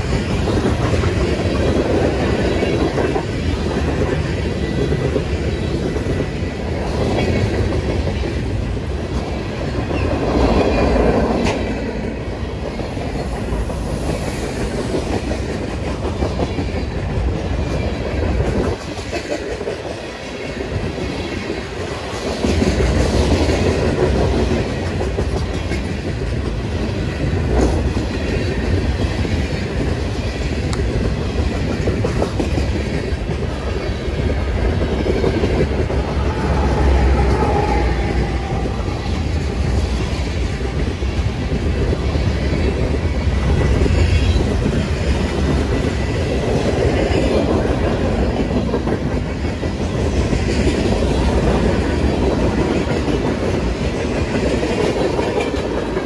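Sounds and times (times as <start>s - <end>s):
train wheels running on rails: 0.0s - 56.0s.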